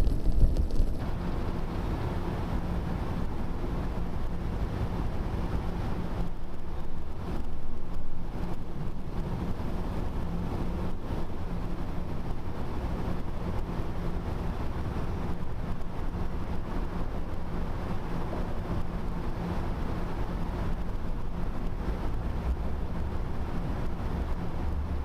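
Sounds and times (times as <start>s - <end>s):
wind rumbling over microphone: 0.0s - 25.0s.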